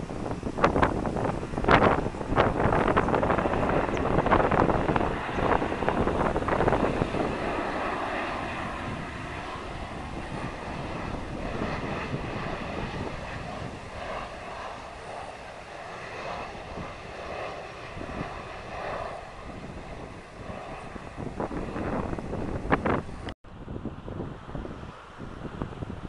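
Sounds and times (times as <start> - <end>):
jet engine drone with whine: 0.0 - 26.0
wind buffeting microphone: 0.0 - 26.0.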